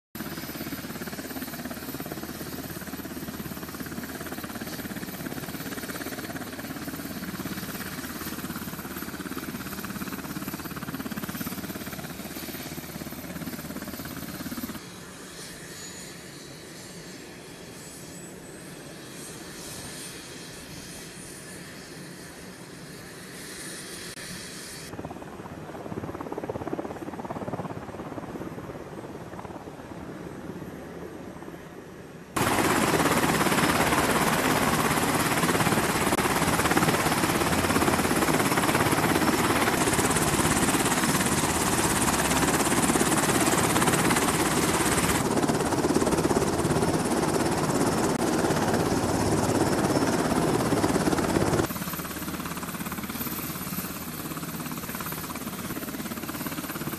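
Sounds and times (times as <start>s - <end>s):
aircraft engines rushing: 0.2s - 56.9s.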